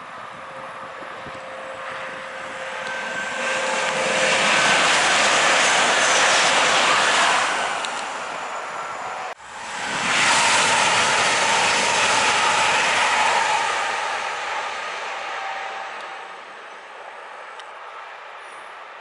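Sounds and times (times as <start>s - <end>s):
electric train passing: 0.0s - 19.0s
rush of wind: 0.0s - 19.0s.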